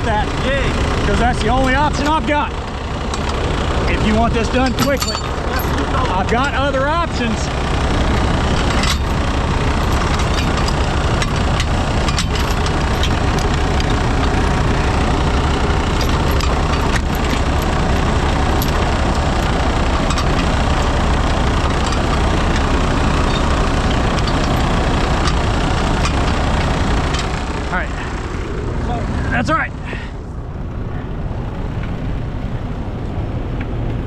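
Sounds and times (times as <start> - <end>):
truck diesel engine idling: 0.0 - 34.0.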